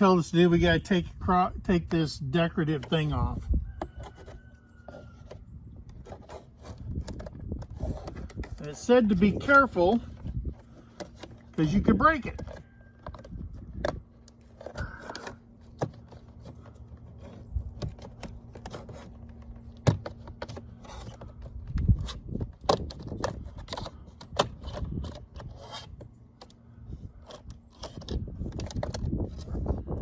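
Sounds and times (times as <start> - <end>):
prying plastic trim scraping: 0.7 - 30.0.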